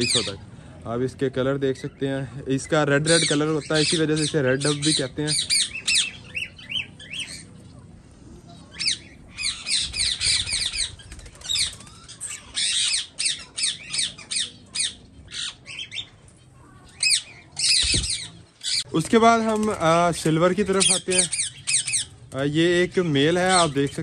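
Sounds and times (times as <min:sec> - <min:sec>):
cage birds chirping and squawking: 0:00.0 - 0:24.0.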